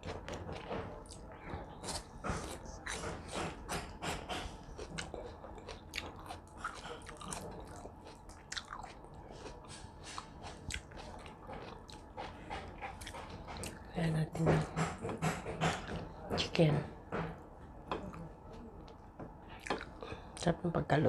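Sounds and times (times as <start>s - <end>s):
person chewing food: 0.0s - 13.9s, 14.6s - 16.2s, 17.2s - 20.5s.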